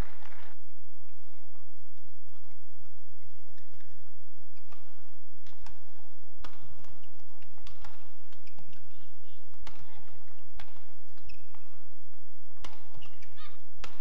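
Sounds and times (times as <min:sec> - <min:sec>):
rackets striking shuttlecock: 0:01.9 - 0:14.0.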